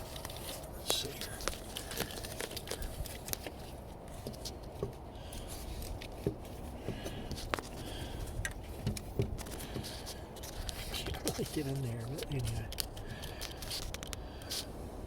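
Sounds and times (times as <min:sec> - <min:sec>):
hands handling engine parts: 0:00.0 - 0:14.7.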